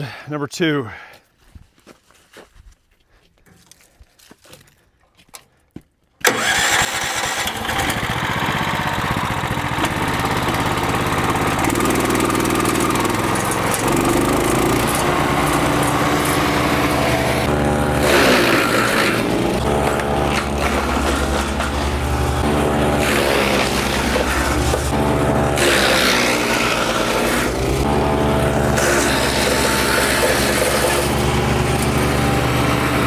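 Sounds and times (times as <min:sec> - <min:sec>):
engine running loudly: 0:06.3 - 0:33.0.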